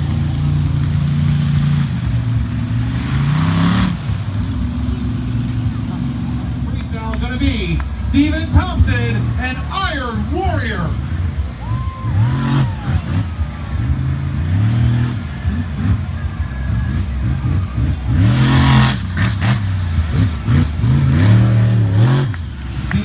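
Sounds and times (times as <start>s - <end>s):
monster truck engine revving: 0.0s - 23.0s
rushing bursts: 0.0s - 23.0s.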